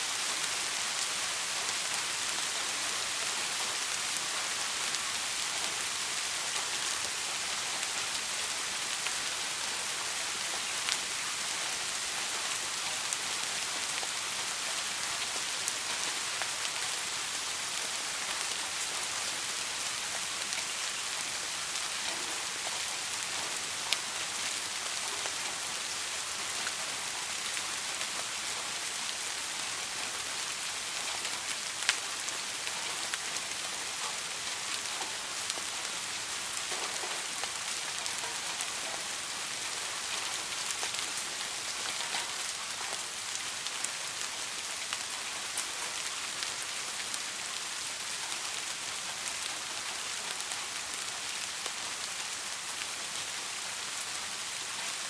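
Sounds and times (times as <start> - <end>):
soft rain hiss: 0.0 - 55.0.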